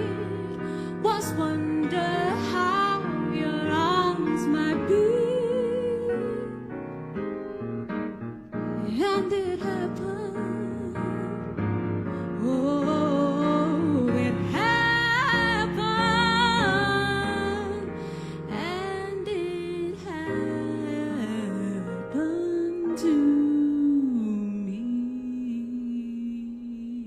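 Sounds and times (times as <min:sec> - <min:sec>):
slow jazz with piano: 0:00.0 - 0:27.0.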